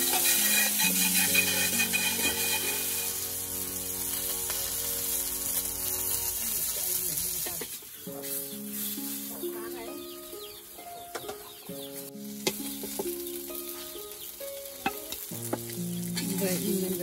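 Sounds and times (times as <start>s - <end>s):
background music: 0.0s - 7.3s, 7.9s - 17.0s
fish sizzling in hot oil: 0.0s - 17.0s.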